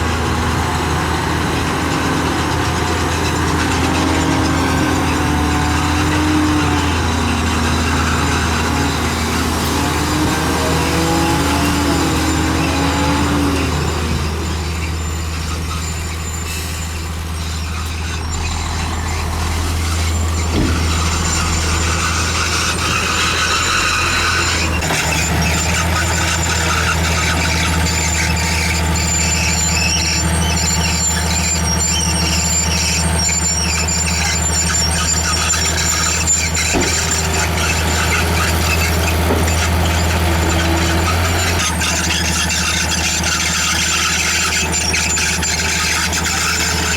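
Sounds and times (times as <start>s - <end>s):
bulldozer diesel engine droning: 0.0s - 46.9s
steel tracks squealing: 0.0s - 46.9s.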